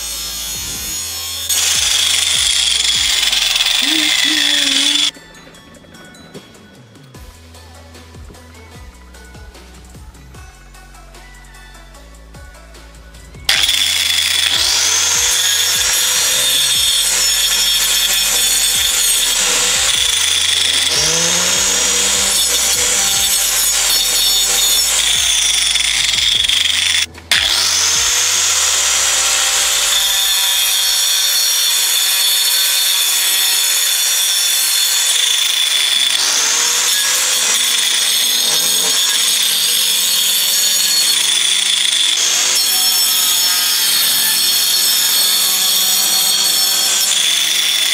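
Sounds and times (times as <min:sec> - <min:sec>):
angle grinder cutting ice: 0:00.0 - 0:05.2, 0:13.5 - 0:47.9.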